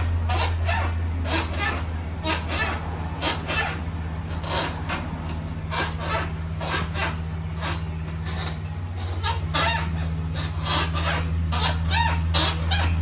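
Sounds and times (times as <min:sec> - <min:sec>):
low engine hum: 0:00.0 - 0:13.0
suspension squeaking: 0:00.0 - 0:13.0.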